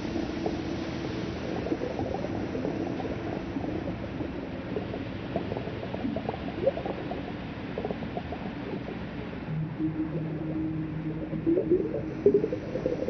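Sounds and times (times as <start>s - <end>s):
bubbling and gurgling: 0.0s - 13.0s
low steady hum: 0.0s - 13.0s
underwater low wash: 0.0s - 13.0s.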